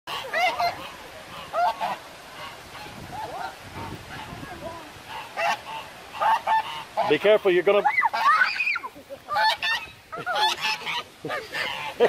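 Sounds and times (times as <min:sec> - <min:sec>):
goose honking: 0:00.1 - 0:08.5, 0:09.3 - 0:12.0.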